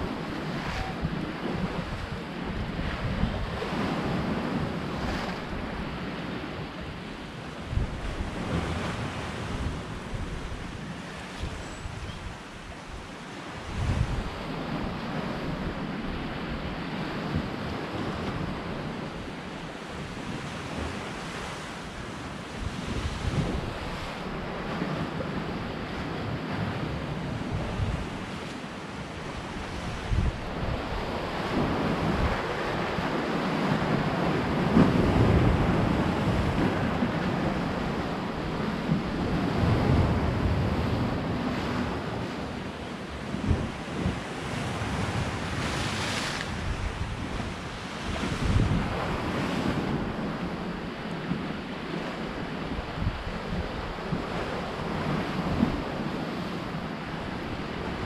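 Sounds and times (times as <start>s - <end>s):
surf washing on shore: 0.0s - 58.0s
wind buffeting microphone: 0.0s - 58.0s.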